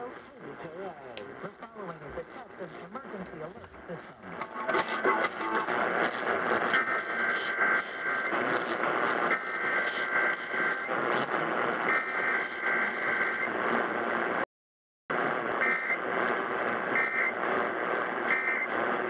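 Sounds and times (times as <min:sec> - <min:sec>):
radio static: 0:00.0 - 0:14.4, 0:15.1 - 0:19.0.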